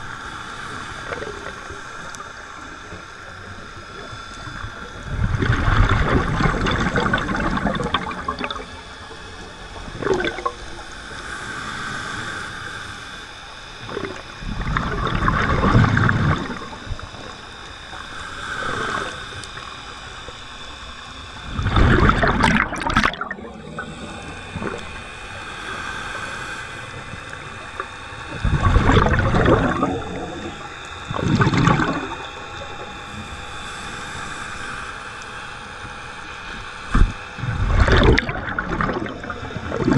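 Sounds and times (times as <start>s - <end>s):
muffled underwater water sloshing: 0.0s - 11.2s, 13.0s - 39.9s.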